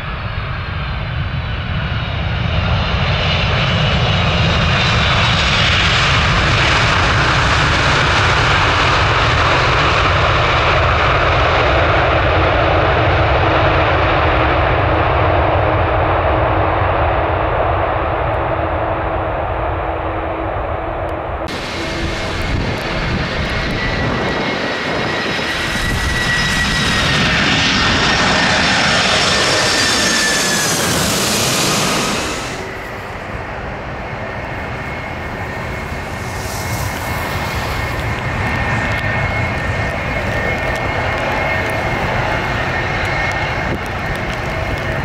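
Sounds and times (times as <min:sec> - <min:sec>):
jet engines rumbling and whining: 0:00.0 - 0:45.0.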